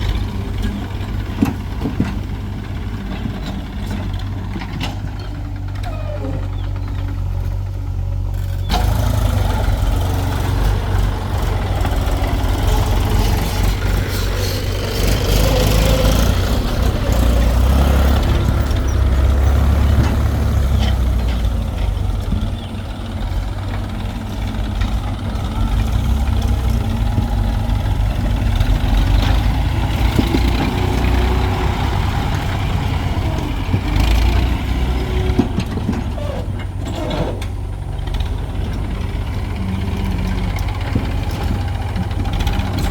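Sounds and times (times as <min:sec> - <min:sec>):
backhoe diesel engine working: 0:00.0 - 0:42.9
tractor engine: 0:00.0 - 0:42.9.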